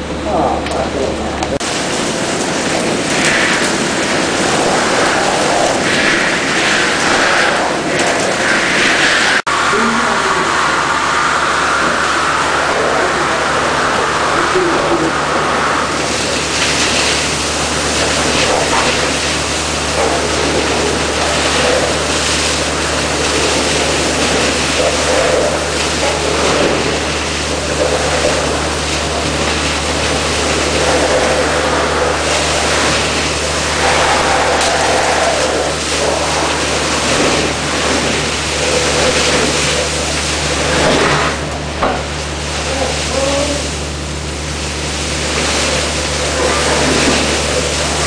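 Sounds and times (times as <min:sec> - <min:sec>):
vacuum unit low hum: 0:00.0 - 0:48.0
vacuum hose rushing air: 0:01.1 - 0:48.0.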